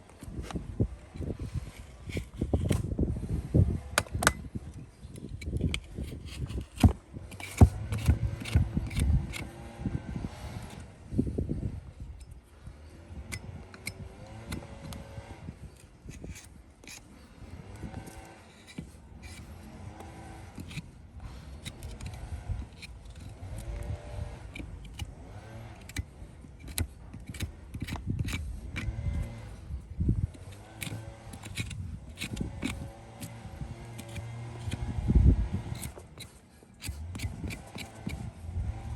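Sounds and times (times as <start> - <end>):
hand tools clicking and scraping hoof: 0.0 - 38.9.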